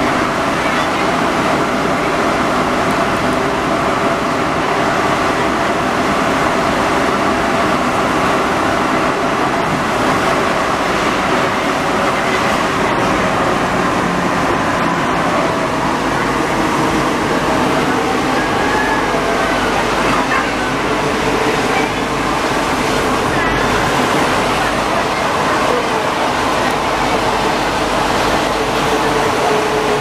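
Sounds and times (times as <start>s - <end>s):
train rumbling through tunnel: 0.0s - 30.0s.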